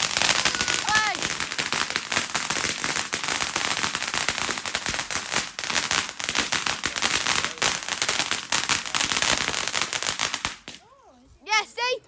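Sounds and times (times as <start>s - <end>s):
fireworks crackling: 0.0s - 10.8s.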